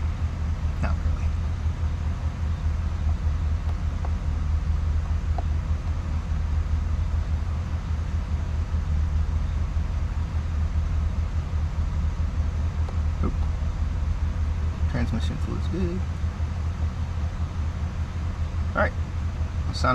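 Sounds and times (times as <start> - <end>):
pickup engine idling: 0.0 - 19.9.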